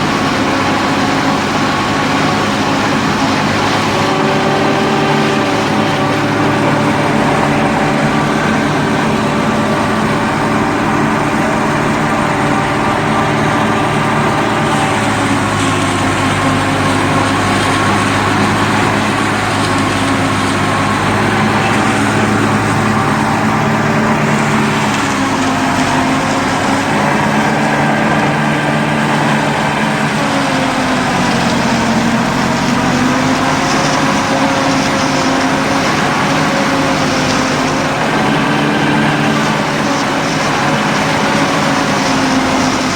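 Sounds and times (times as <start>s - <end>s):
machinery engine running: 0.0s - 42.9s.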